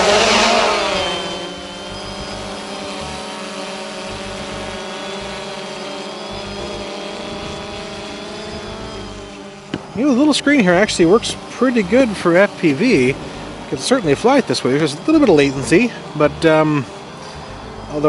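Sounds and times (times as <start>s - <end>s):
drone motors buzzing: 0.0s - 18.0s.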